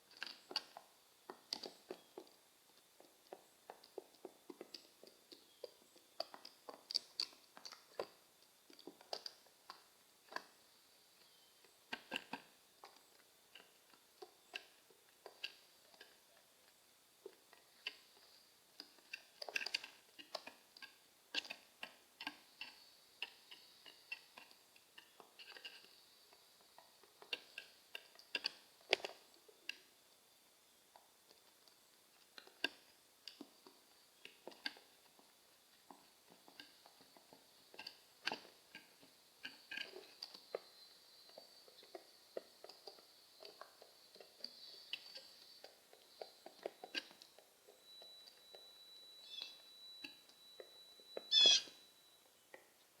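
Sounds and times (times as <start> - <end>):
pigeons pecking seed: 0.0 - 53.0.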